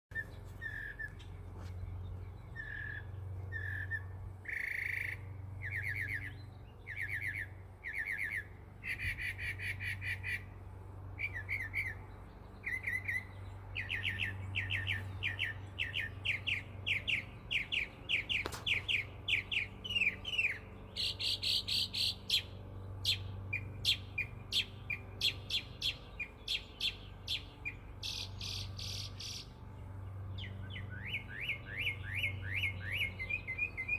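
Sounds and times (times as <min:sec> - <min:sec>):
mockingbird singing: 0:00.1 - 0:10.6, 0:11.2 - 0:33.9
steady low hum: 0:00.1 - 0:33.9.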